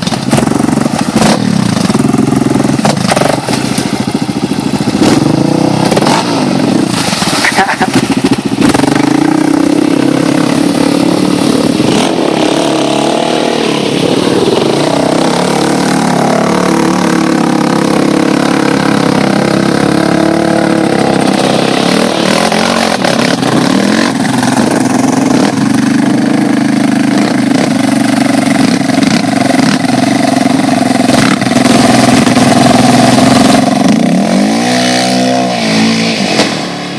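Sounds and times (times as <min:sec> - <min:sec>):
atv engines revving: 0:00.0 - 0:36.9.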